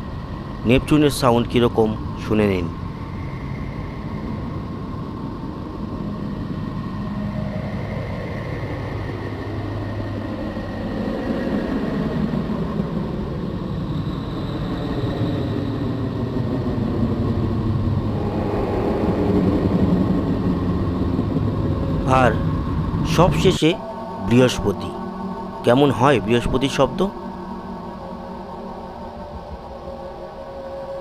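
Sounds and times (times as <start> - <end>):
faint drifting tones: 0.0 - 31.0
rumbling drone: 0.0 - 31.0.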